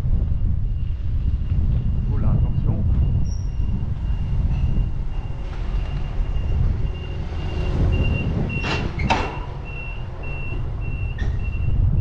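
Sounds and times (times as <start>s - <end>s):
low rumble: 0.0s - 12.0s
forklift warning beeper: 0.4s - 12.0s.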